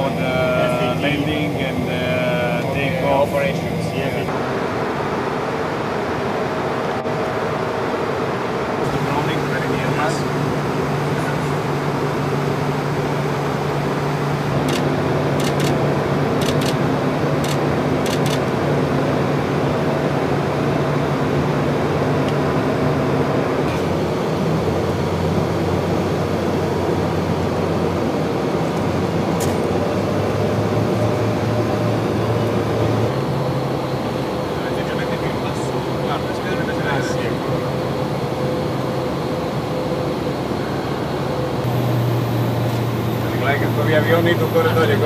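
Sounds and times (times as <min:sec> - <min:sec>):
jet cabin rush and hum: 0:00.0 - 0:45.0.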